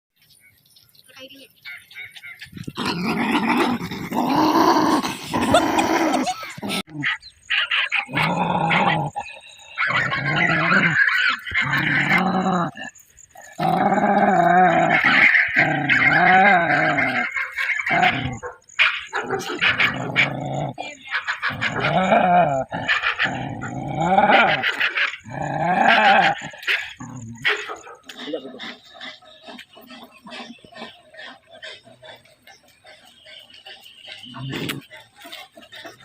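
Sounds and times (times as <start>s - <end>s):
dog growling and barking: 2.5s - 32.7s.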